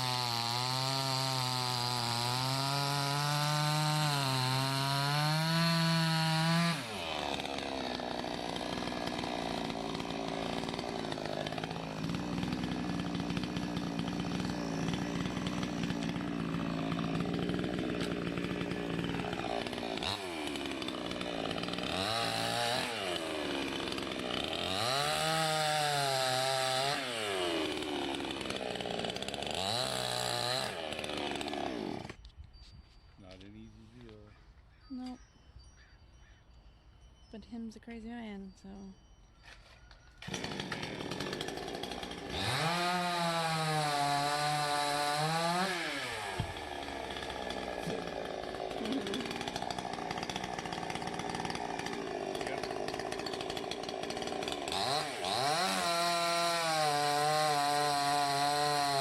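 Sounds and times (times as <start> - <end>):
chainsaw cutting wood: 0.0 - 32.3, 39.4 - 59.0.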